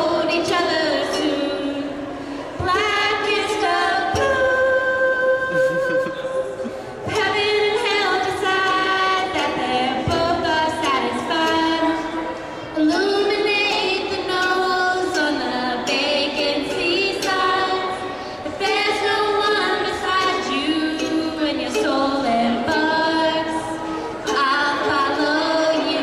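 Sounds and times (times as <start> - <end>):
ukulele strumming: 0.0 - 26.0
women singing together: 0.0 - 26.0.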